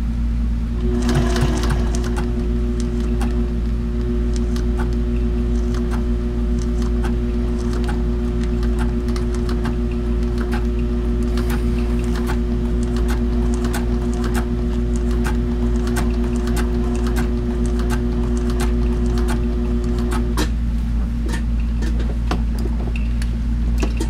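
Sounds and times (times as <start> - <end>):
sewing machine motor hum: 0.7 - 20.6.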